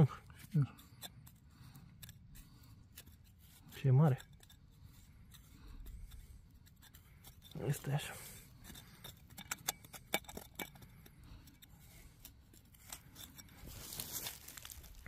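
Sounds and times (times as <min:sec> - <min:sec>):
digging tool scraping soil: 0:00.0 - 0:15.0.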